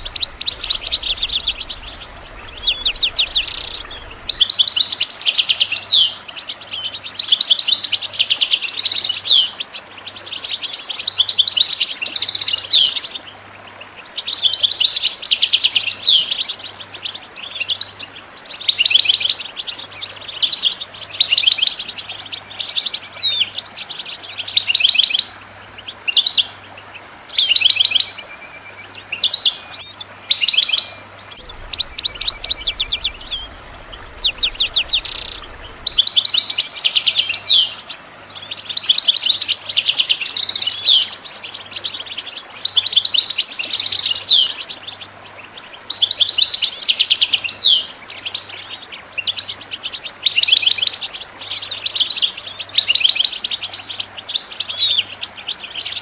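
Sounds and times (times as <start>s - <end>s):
finch twittering song: 0.0s - 13.0s, 14.2s - 56.0s.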